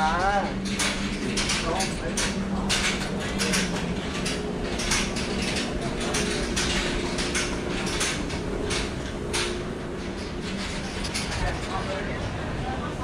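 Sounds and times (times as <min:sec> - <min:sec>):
sharp clicks and clatter: 0:00.2 - 0:12.0.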